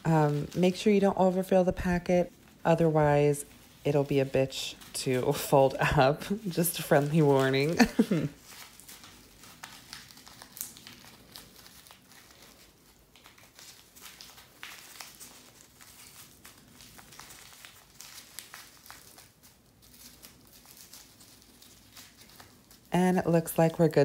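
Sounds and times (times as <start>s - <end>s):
paper crinkling: 0.0s - 24.0s.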